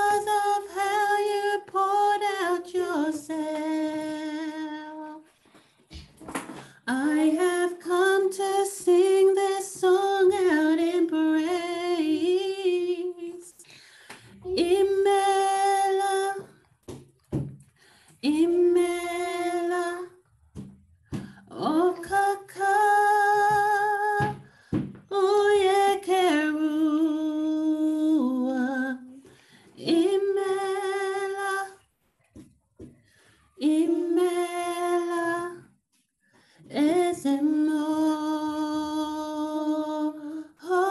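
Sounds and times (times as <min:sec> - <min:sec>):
woman singing slow worship melody: 0:00.0 - 0:05.3, 0:06.4 - 0:16.6, 0:18.0 - 0:20.3, 0:21.1 - 0:31.8, 0:33.2 - 0:35.6, 0:36.6 - 0:40.9.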